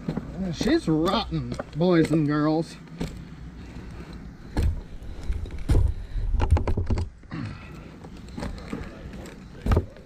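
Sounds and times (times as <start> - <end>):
knocks and clunks on tree: 0.0 - 10.0.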